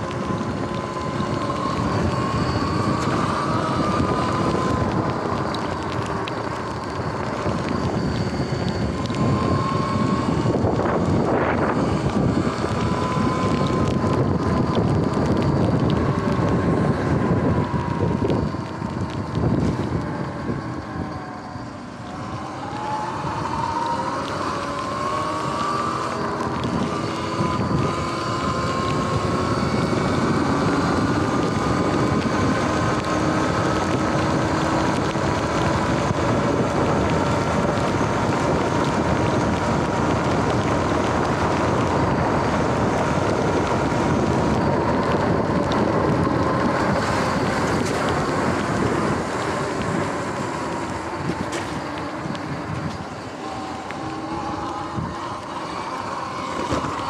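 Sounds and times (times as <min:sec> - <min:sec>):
electric motor whine: 0:00.0 - 0:57.0
tyres hissing on wet pavement: 0:00.0 - 0:57.0
wind on microphone: 0:00.0 - 0:57.0.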